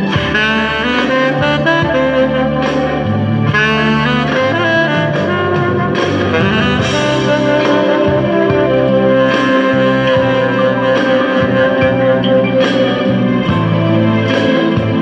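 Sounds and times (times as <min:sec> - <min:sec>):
backing track with bass: 0:00.0 - 0:15.0
saxophone melody with vibrato: 0:00.0 - 0:15.0.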